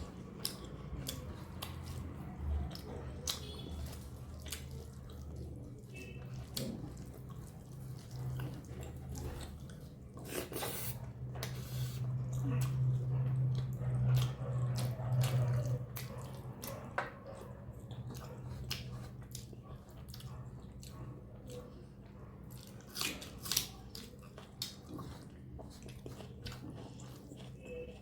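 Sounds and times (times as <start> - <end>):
wet chewing: 0.0 - 28.0.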